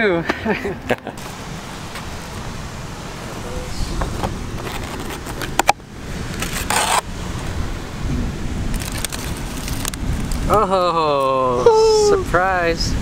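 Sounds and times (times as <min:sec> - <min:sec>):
wind rumble on microphone: 0:01.2 - 0:13.0.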